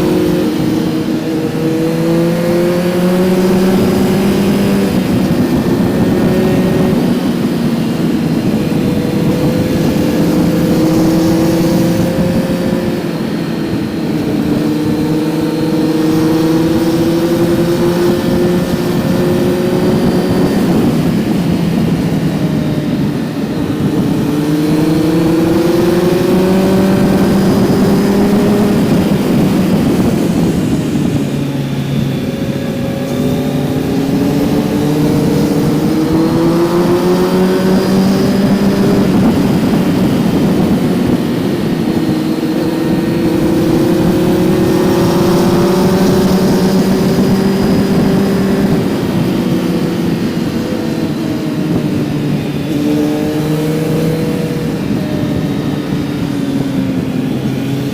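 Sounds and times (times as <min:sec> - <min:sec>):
motorcycle engine under throttle: 0:00.0 - 0:57.9.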